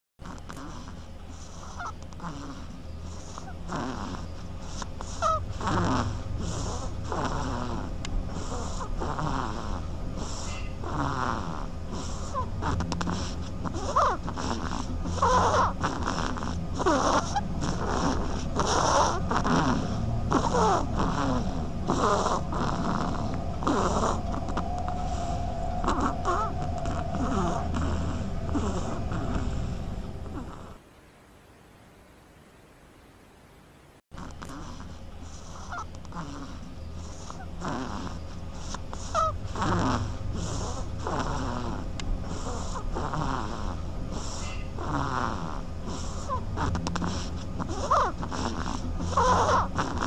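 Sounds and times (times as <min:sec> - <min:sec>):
duckling snoring squeakily: 0:00.2 - 0:30.8, 0:34.2 - 0:50.0.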